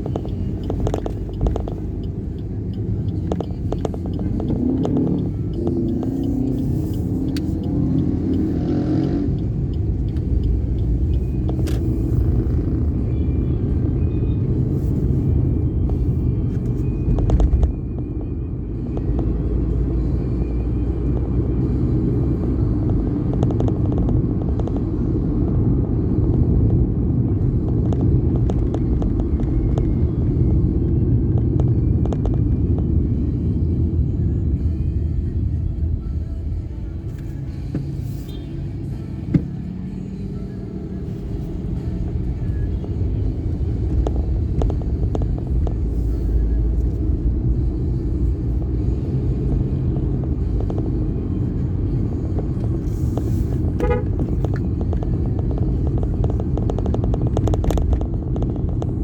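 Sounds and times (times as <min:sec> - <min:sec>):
vehicle rumbling: 0:00.0 - 0:59.0.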